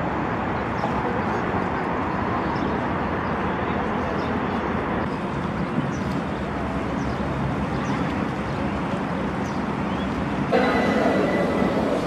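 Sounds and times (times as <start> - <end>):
outdoor background rush: 0.0 - 12.0.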